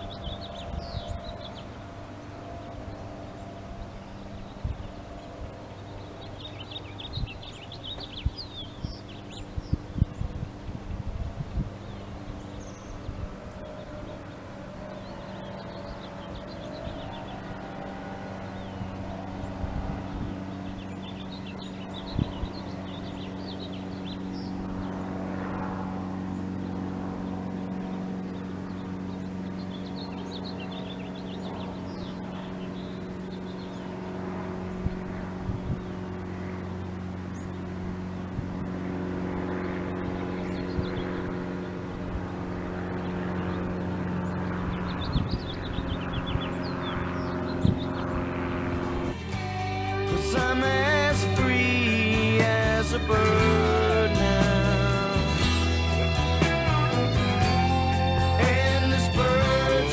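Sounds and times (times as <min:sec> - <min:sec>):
machinery hum: 0:00.0 - 0:59.9.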